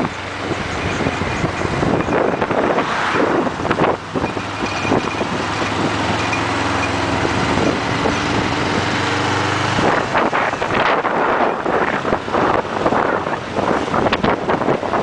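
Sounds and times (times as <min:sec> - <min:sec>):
motorcycle engine running: 0:00.0 - 0:15.0
wind noise on microphone: 0:00.0 - 0:15.0.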